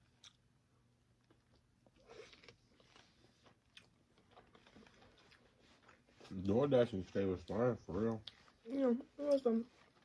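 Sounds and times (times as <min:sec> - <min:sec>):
faint chewing: 0:00.0 - 0:00.5, 0:01.2 - 0:10.0.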